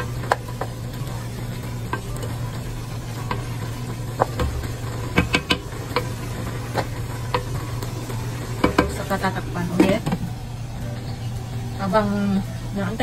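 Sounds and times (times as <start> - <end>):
sauce bubbling and sizzling: 0.0 - 13.0.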